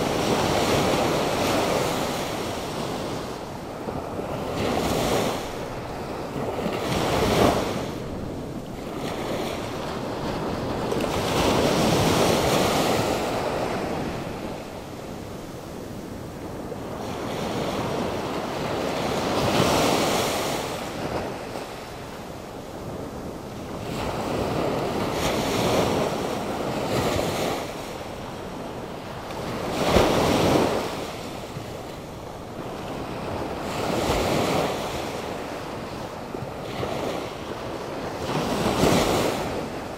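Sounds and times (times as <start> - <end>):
waves breaking on shore: 0.0 - 39.9
wind gusts on microphone: 0.0 - 39.9.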